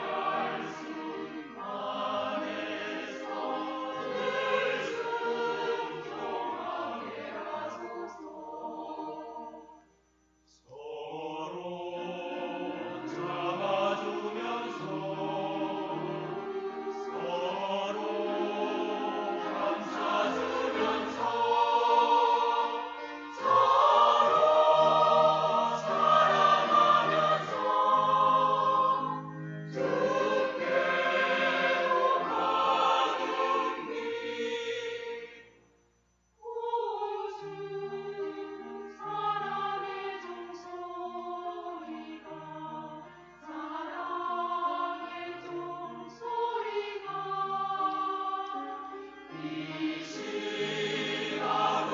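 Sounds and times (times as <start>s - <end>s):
choir singing a hymn: 0.0s - 35.6s, 36.4s - 51.9s.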